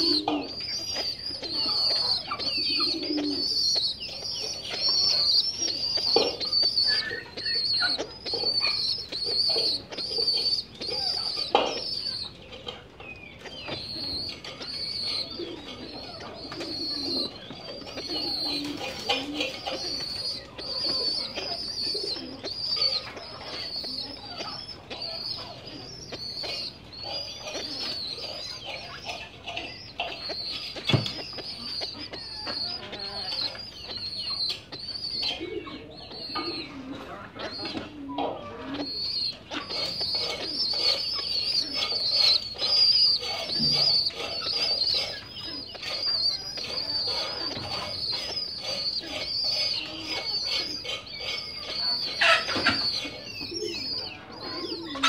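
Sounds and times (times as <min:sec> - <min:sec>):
adult pigeons cooing: 0:00.0 - 0:55.0
pigeon squabs peeping: 0:00.0 - 0:55.0.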